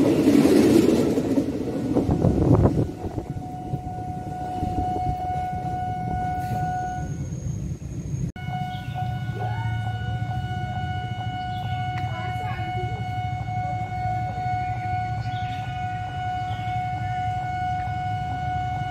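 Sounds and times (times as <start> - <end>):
electric train rumble: 0.0 - 18.9
train high whine: 0.0 - 18.9.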